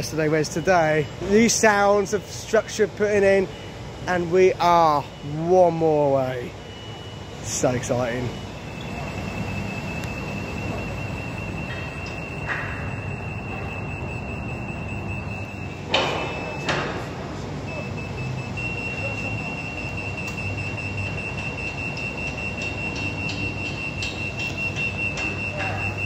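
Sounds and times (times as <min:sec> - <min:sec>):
high-pitched whine: 0:00.0 - 0:26.0
low machinery hum: 0:00.0 - 0:26.0.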